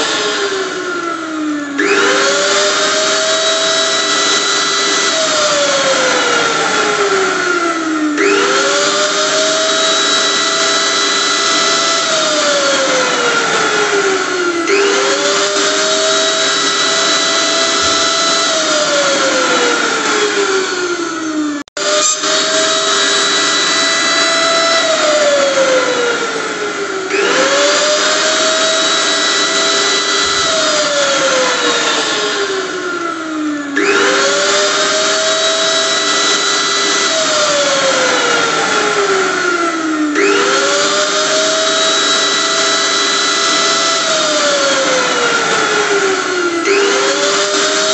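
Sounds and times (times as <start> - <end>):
blender motor running: 0.0 - 47.9.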